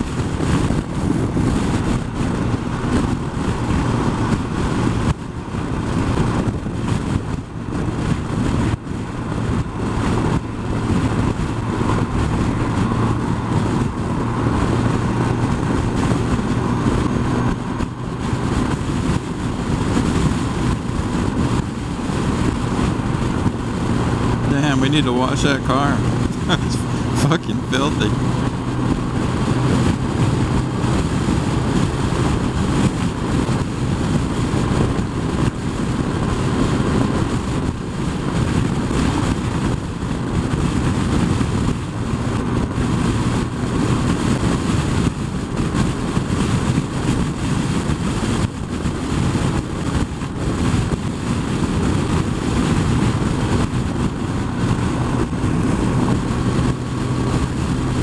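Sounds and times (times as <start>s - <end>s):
motorcycle engine humming: 0.0s - 58.0s
wind rushing over microphone: 0.0s - 58.0s.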